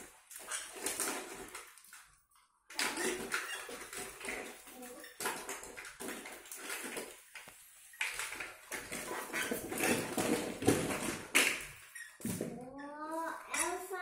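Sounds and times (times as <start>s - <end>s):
plastic toys clattering and rustling: 0.0s - 14.0s.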